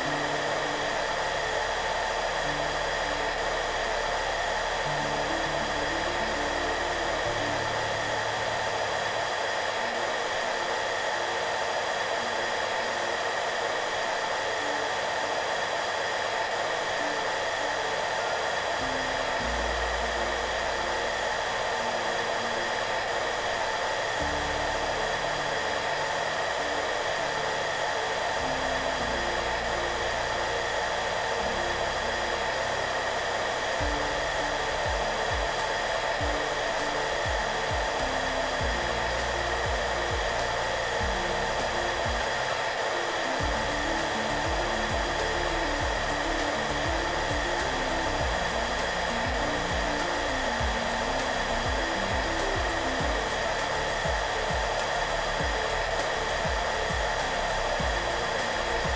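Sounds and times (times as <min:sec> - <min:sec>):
hair dryer running: 0:00.0 - 0:58.9
soft background music: 0:00.0 - 0:58.9.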